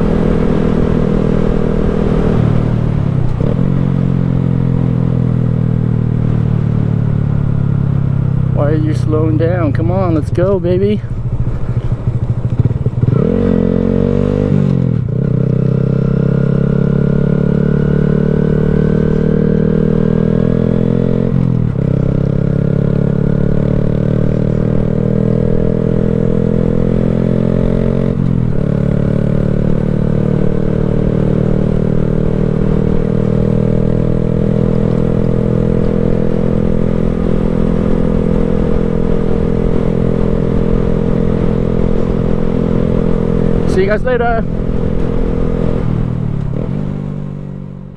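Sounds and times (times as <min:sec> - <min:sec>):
motorcycle engine upshifting: 0:00.0 - 0:47.8.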